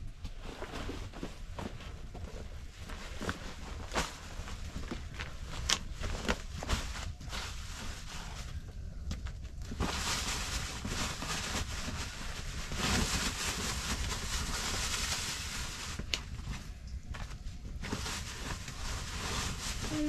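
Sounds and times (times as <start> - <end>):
low steady rumble: 0.0 - 20.0
sack rustling: 0.2 - 8.6, 9.6 - 20.0.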